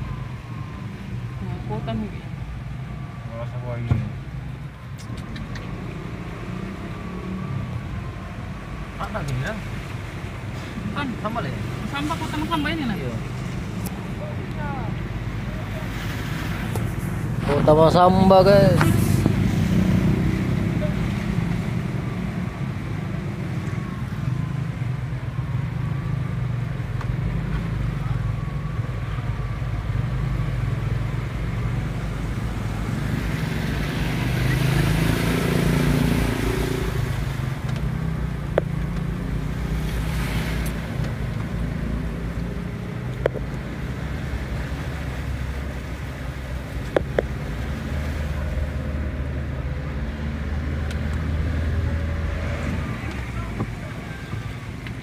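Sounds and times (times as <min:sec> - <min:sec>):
wash of floodwater: 0:03.8 - 0:55.0.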